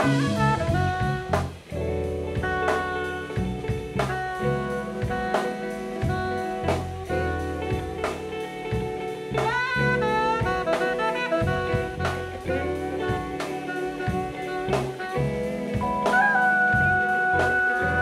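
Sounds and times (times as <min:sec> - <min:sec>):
drum kit: 0:00.0 - 0:18.0
electric bass: 0:00.0 - 0:18.0
keyboards: 0:00.0 - 0:18.0
saxophone lead line: 0:00.0 - 0:18.0.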